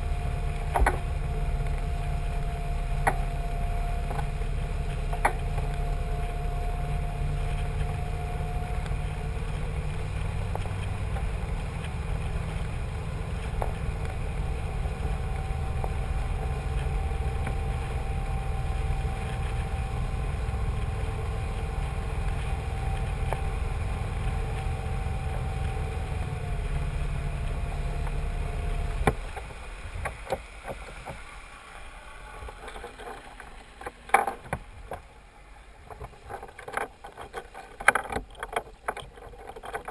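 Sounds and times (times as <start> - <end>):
boat engine rumbling: 0.0 - 39.9
faint steady whine: 0.0 - 39.9.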